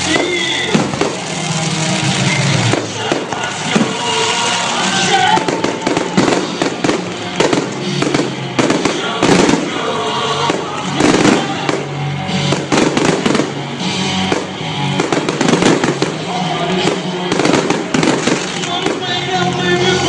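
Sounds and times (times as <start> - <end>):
fireworks bursting: 0.0 - 20.0
music playing: 0.0 - 20.0.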